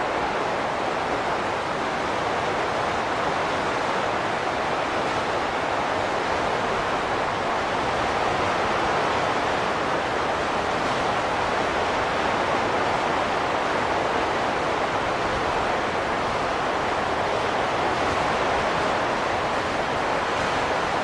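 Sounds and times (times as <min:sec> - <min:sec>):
steady rushing wind: 0:00.0 - 0:21.0.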